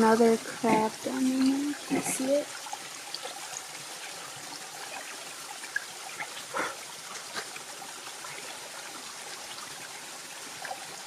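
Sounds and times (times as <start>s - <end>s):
small waterfall and stream running: 0.0s - 11.0s.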